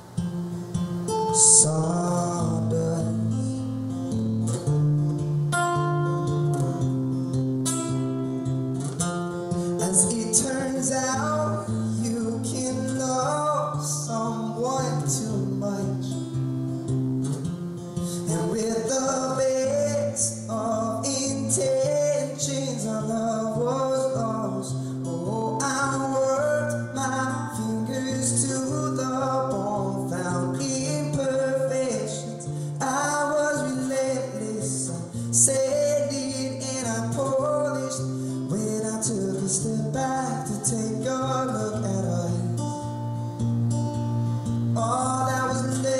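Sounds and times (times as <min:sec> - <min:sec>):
acoustic guitar strumming: 0:00.0 - 0:45.9
man singing folk song: 0:00.0 - 0:45.9.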